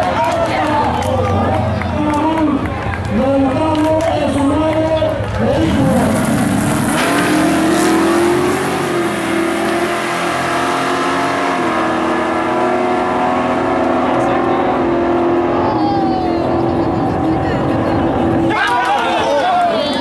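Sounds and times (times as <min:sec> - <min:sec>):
drag racing cars accelerating: 0:00.0 - 0:20.0.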